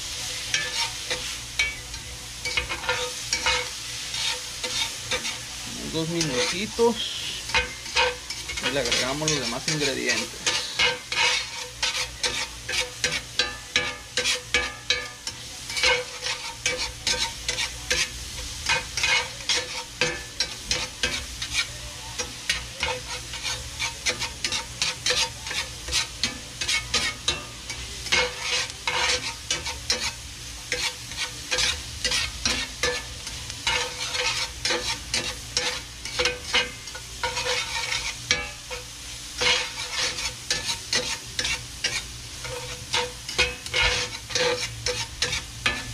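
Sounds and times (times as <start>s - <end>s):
food sizzling in oil: 0.0s - 45.9s
metal spatula scraping skillet: 0.2s - 45.9s.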